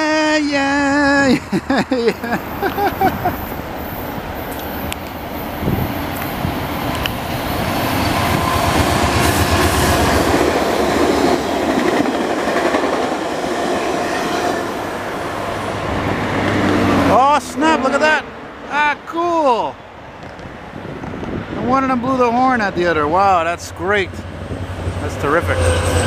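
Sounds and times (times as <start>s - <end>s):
passenger train passing: 0.0s - 26.0s.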